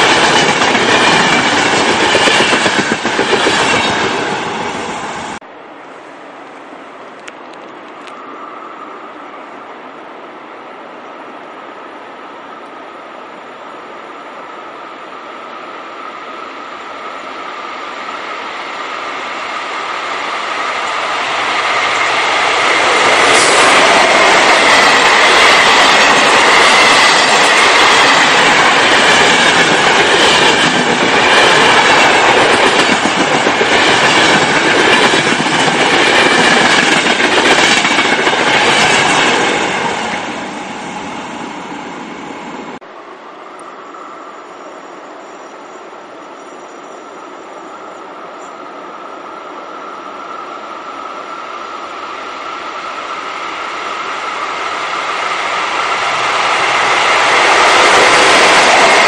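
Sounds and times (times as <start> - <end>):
train passing by: 0.0 - 59.0.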